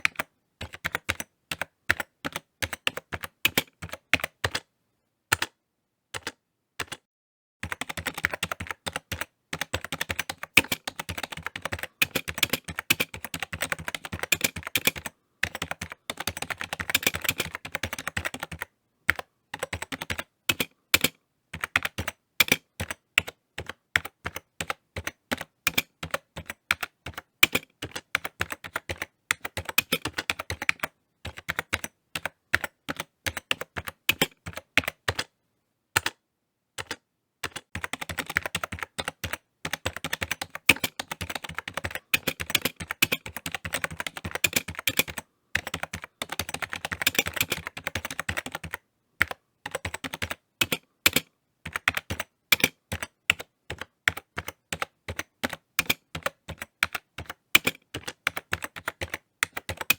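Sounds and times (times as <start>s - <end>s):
typing on computer keyboard: 0.0s - 4.7s, 5.3s - 35.4s, 36.0s - 36.2s, 36.8s - 59.9s.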